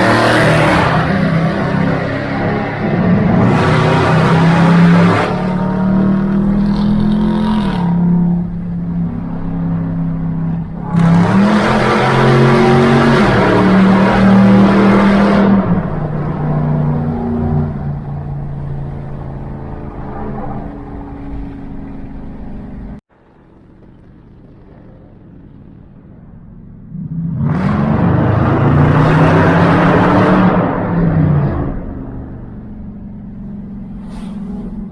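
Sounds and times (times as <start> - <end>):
car engine revving: 0.0 - 34.9
loud car exhaust: 0.0 - 34.9.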